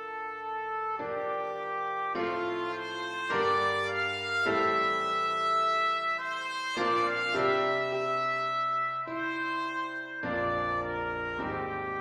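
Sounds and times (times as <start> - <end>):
brass ensemble chords: 0.0 - 12.0
piano: 0.0 - 12.0.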